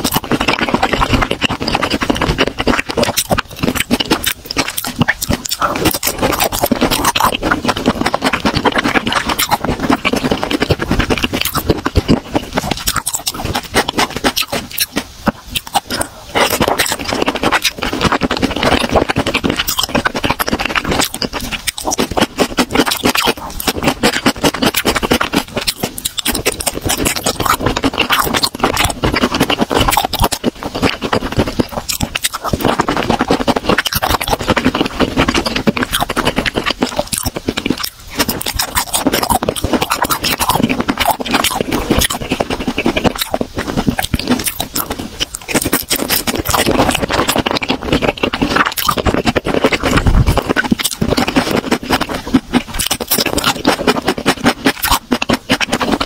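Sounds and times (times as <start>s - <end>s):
crisp wet chewing: 0.0s - 56.0s.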